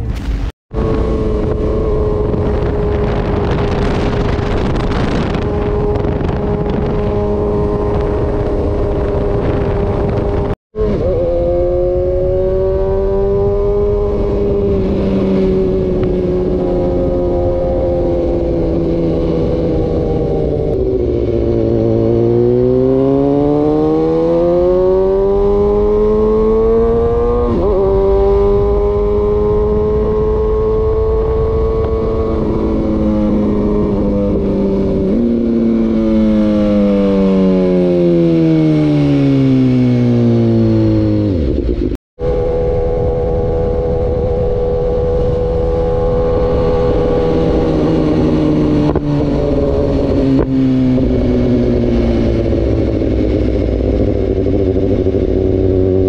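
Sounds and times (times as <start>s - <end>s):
wind and road rush: 0.0s - 56.0s
motorcycle engine running: 0.7s - 56.0s.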